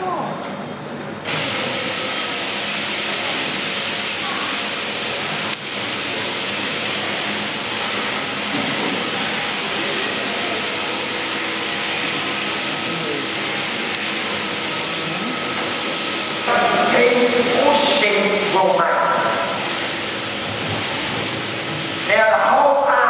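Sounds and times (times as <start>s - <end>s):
electric shears whirring: 1.2s - 23.0s.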